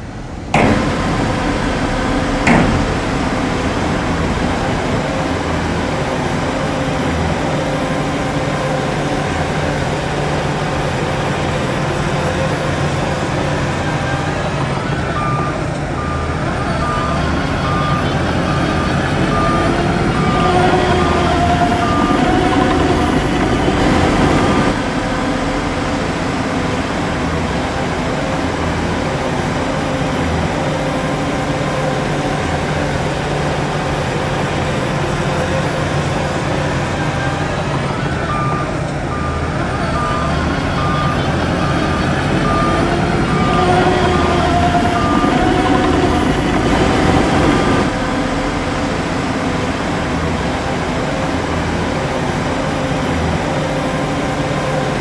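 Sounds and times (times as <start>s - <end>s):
diesel earthmoving machinery running: 0.0s - 55.0s
reversing alarm beeping: 0.6s - 55.0s.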